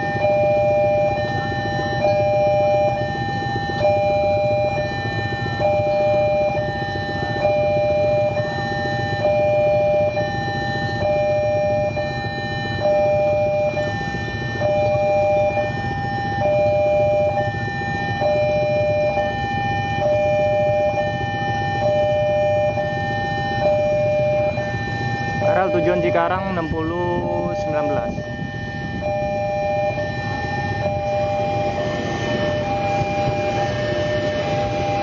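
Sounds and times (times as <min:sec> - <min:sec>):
level crossing warning alarm: 0:00.0 - 0:35.0.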